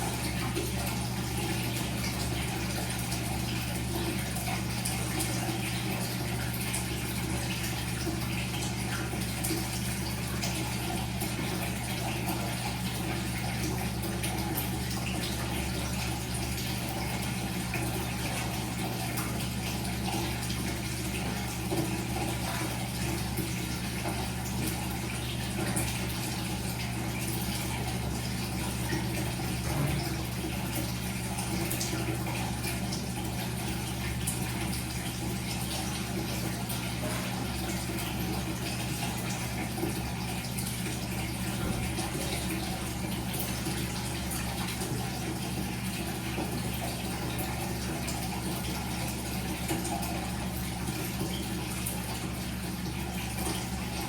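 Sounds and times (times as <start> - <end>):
washing machine motor hum: 0.0 - 54.0
water swishing in drum: 0.0 - 54.0.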